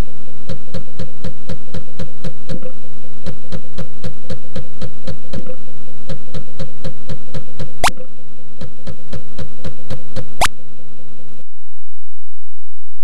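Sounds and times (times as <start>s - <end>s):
floppy drive spinning hum: 0.0s - 11.4s.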